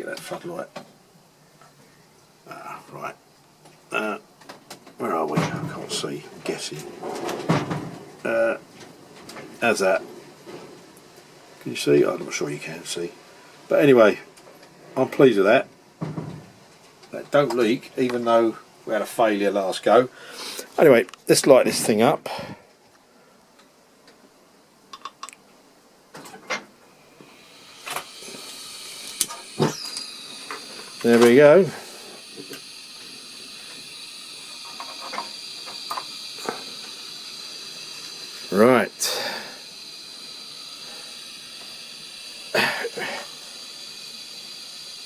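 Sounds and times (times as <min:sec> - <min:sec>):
faint burner hiss: 0:00.0 - 0:45.0.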